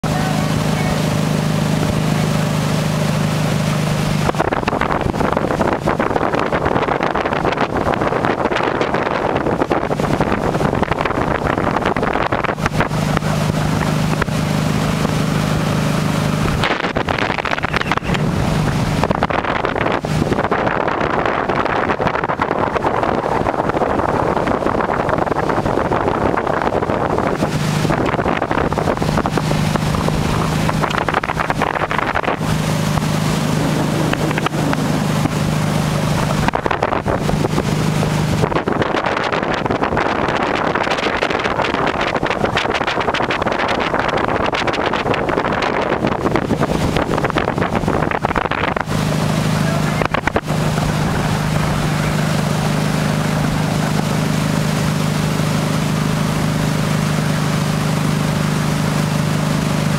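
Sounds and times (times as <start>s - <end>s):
motorboat engine drone: 0.0s - 59.9s
rushing water: 0.0s - 59.9s
wind buffeting microphone: 0.0s - 59.9s.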